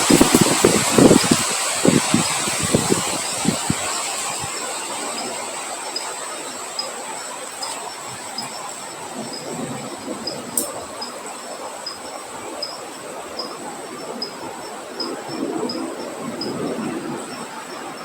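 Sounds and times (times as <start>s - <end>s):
insects trilling: 0.0s - 18.0s
rain: 0.0s - 18.0s
wind: 0.0s - 18.0s.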